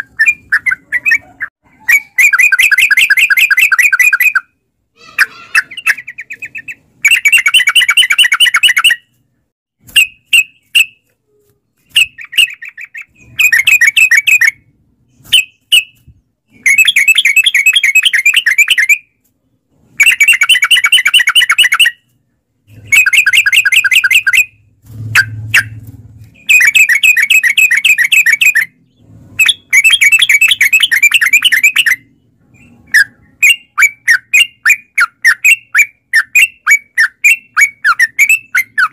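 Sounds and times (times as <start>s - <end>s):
bulbul singing: 0.0s - 9.2s, 11.8s - 19.2s, 20.0s - 38.9s.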